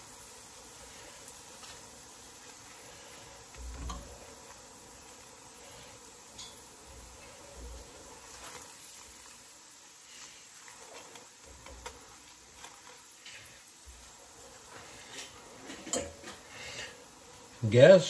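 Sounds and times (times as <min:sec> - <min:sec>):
light ticks and crackles: 0:00.0 - 0:17.6
flatbread sizzling on griddle: 0:00.0 - 0:18.0.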